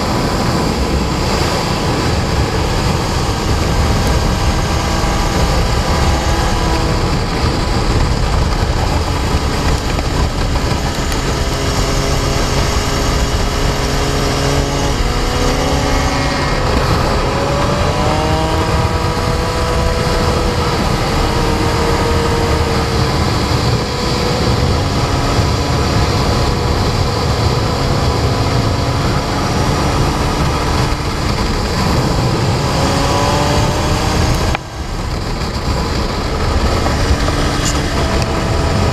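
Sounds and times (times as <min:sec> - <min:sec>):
motorcycle engine revving: 0:00.0 - 0:38.9
wind rush on microphone: 0:00.0 - 0:38.9.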